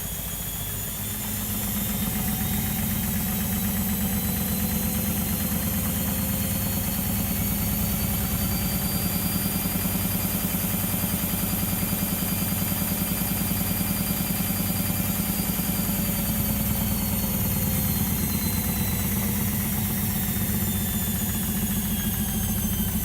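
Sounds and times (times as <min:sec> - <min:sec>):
motor whine rising in pitch: 0:00.0 - 0:23.0.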